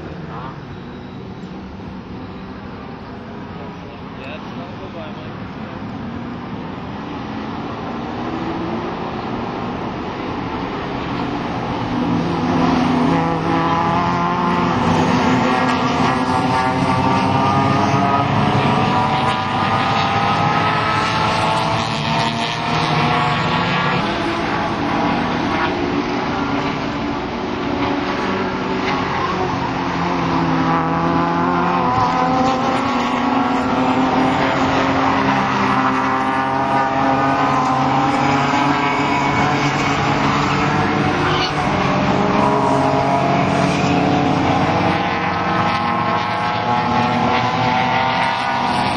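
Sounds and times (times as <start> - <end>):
race car engine at high revs: 0.0 - 48.9.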